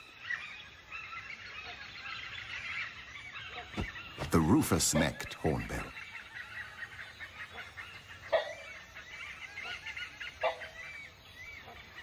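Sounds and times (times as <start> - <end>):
high chirping of forest birds: 0.0 - 12.0.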